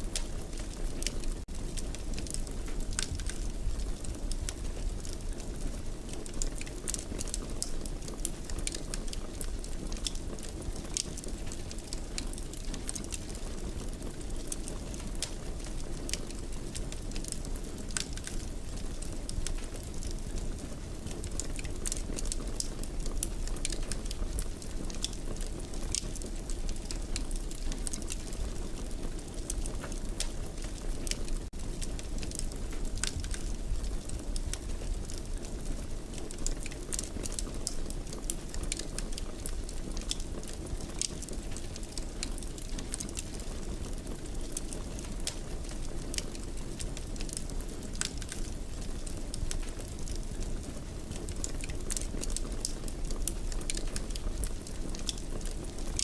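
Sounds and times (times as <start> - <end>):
fire crackling in a fireplace: 0.0 - 56.0.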